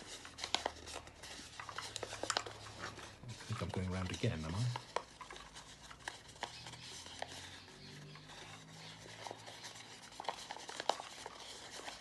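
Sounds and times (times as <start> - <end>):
paper rustling and crackling: 0.0 - 12.0.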